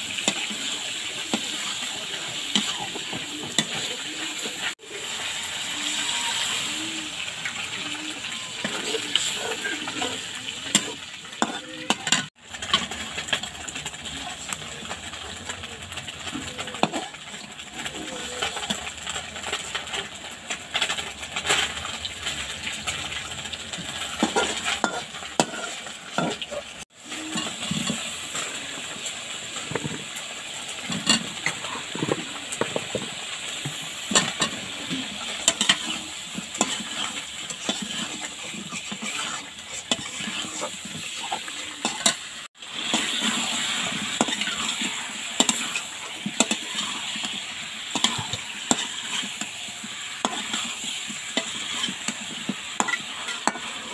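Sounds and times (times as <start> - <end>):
metal spatula scraping a pan: 0.0 - 20.1, 20.7 - 53.9
oil sizzling in a frying pan: 0.0 - 53.9.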